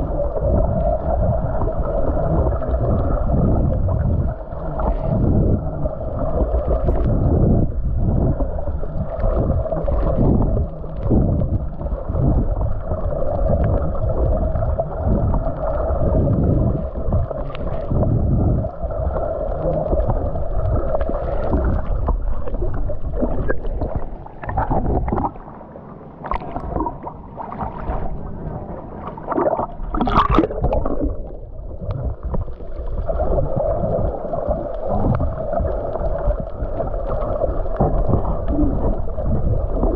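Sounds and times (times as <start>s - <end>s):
heavy low rumble: 0.0s - 39.9s
water rushing and gurgling: 0.0s - 39.9s
water splashes: 0.0s - 39.9s.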